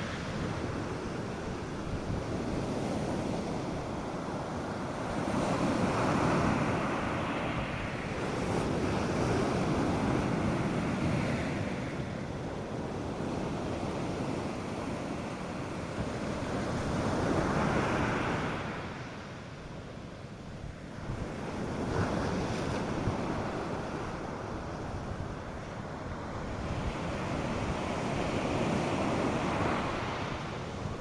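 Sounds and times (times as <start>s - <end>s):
light wind: 0.0s - 31.0s
waves breaking on a beach: 0.0s - 31.0s.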